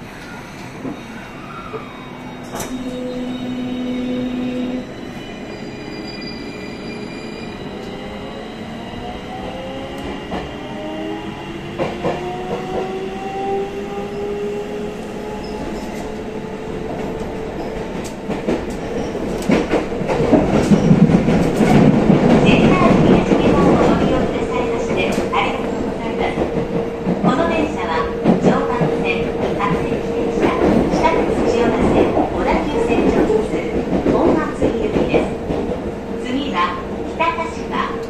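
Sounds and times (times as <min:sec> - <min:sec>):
wheels rumbling on rail: 0:00.0 - 0:38.0.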